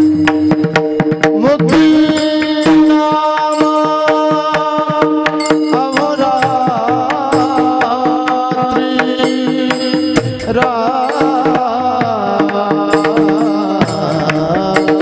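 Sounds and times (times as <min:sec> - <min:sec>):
drum beat: 0:00.0 - 0:15.0
hand cymbals: 0:00.0 - 0:15.0
man singing: 0:00.4 - 0:15.0.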